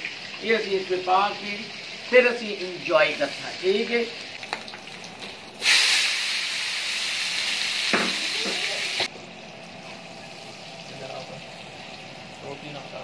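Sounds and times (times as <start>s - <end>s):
vegetables sizzling in hot fat: 0.0s - 9.1s, 9.8s - 13.0s.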